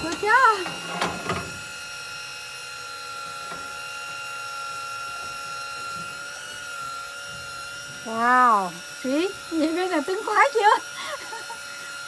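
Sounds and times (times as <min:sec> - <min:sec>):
fishing reel motor whining: 0:00.0 - 0:12.0.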